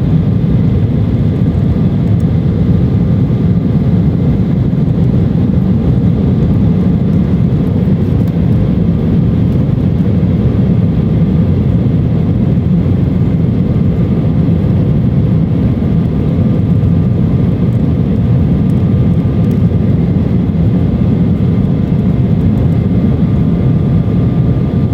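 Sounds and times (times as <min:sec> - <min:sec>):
faint high engine whine: 0:00.0 - 0:24.9
jet engine low rumble: 0:00.0 - 0:24.9.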